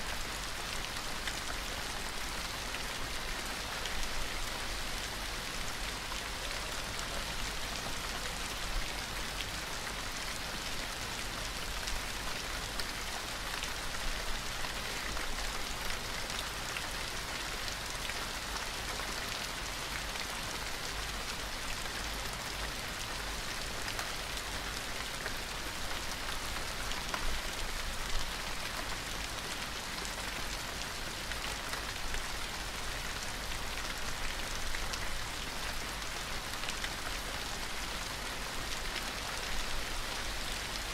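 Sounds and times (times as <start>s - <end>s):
gentle rain hiss: 0.0s - 40.9s.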